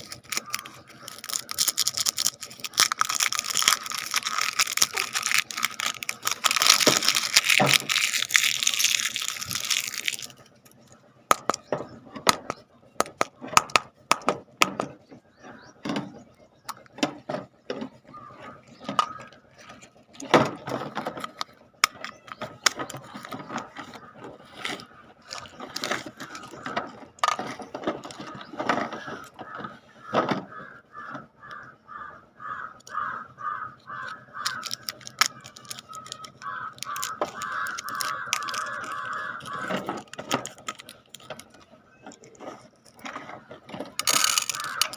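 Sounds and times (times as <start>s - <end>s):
plastic toys clicking and rattling: 0.0s - 15.1s, 15.8s - 31.3s, 32.7s - 44.9s
squeaky ratcheting: 0.0s - 31.6s, 32.2s - 44.9s.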